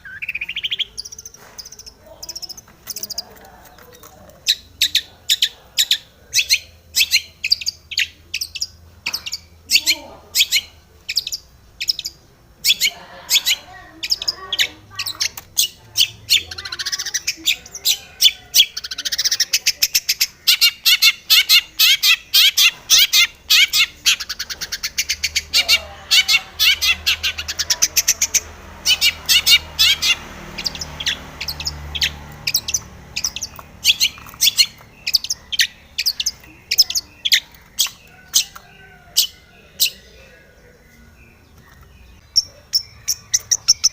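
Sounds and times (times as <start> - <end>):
bird singing rapid notes: 0.0 - 43.9.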